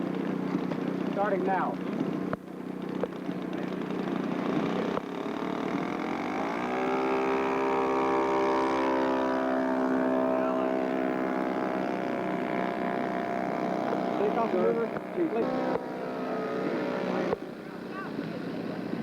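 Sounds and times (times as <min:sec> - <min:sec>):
model airplane engine revving: 0:00.6 - 0:19.0.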